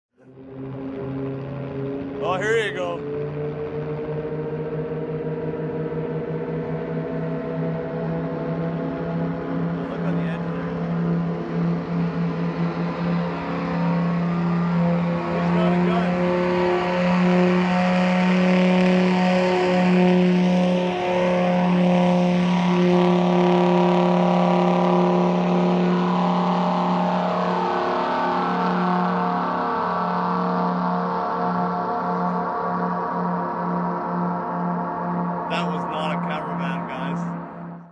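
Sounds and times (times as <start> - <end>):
helicopter flying: 0.2 - 37.9
speedboat engine drone: 0.2 - 37.9.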